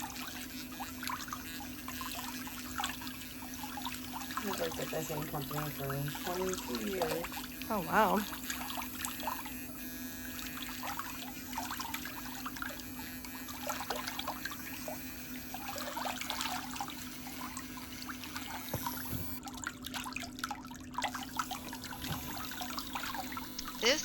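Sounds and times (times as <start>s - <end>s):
electric nail file grinding: 0.0s - 19.4s, 21.0s - 24.0s.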